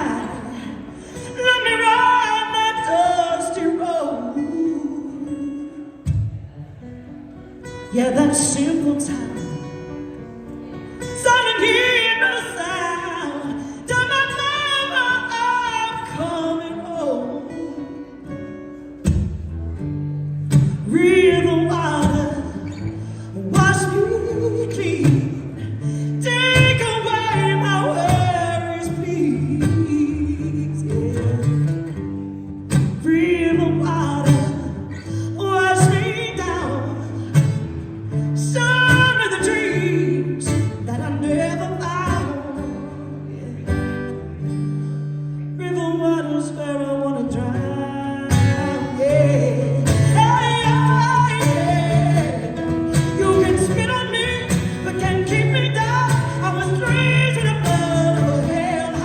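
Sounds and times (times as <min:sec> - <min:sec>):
guitar accompaniment: 0:00.0 - 0:59.0.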